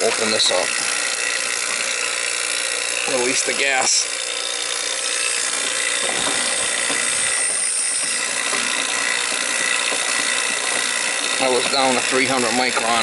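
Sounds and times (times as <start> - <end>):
refrigerant hissing from valve: 0.0 - 13.0.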